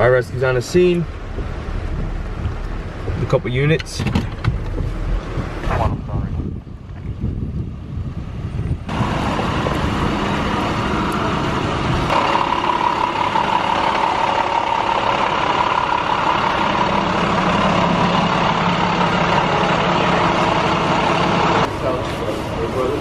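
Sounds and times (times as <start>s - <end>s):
truck engine idling: 0.0s - 6.0s, 7.8s - 23.0s.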